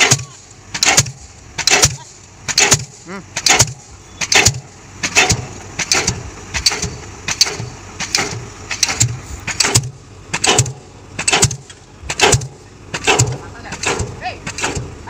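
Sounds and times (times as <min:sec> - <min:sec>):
excavator engine running: 0:00.0 - 0:15.0
pile hammer blows: 0:00.0 - 0:15.0.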